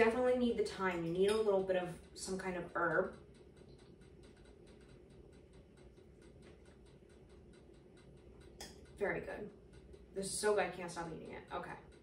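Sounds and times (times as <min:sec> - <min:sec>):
faint repeated ticks: 0:01.9 - 0:12.0.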